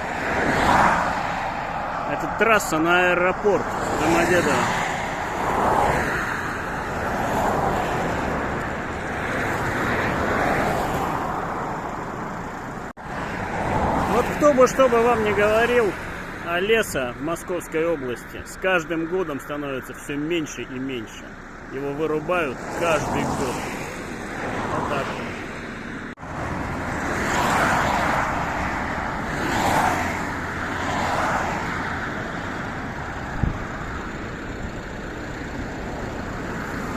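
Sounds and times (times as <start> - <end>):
highway traffic rushing: 0.0 - 36.9
vehicles passing by: 0.0 - 36.9.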